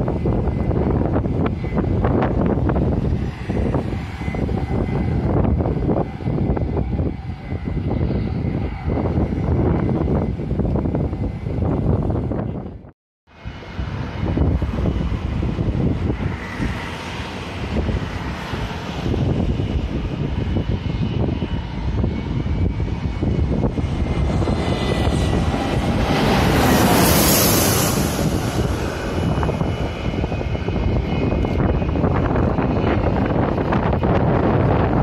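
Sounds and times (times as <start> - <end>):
airliner passing overhead: 0.0 - 35.0
wind rumble on microphone: 0.0 - 35.0.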